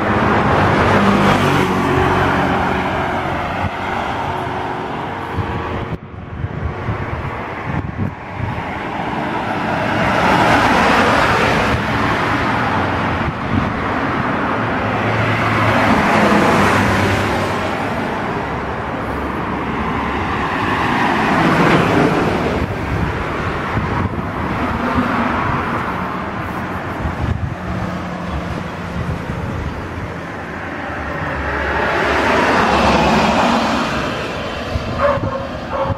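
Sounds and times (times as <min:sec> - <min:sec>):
vehicle engine hum: 0:00.0 - 0:35.9.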